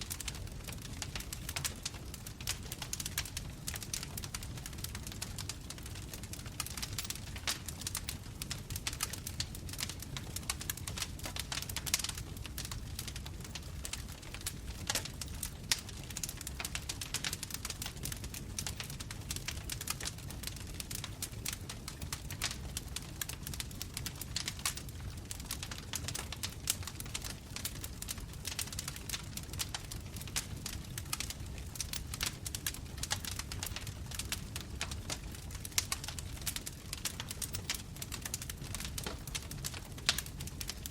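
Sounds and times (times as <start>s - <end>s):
bonfire crackling: 0.0s - 40.9s
low steady rumble of fire: 0.0s - 40.9s.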